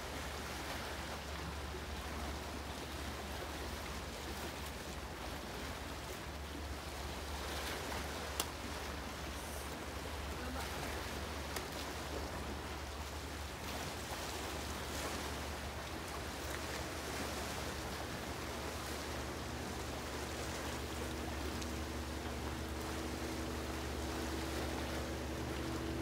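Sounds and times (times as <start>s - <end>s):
sea surf on rocky shore: 0.0s - 26.0s.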